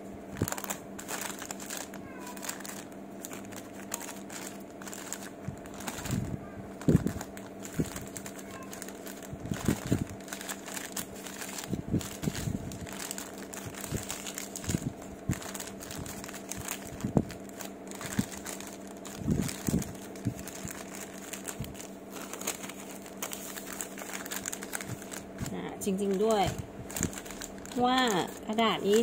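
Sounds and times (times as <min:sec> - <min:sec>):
steady low hum: 0:00.0 - 0:29.0
paper wrapper rustling: 0:00.3 - 0:29.0.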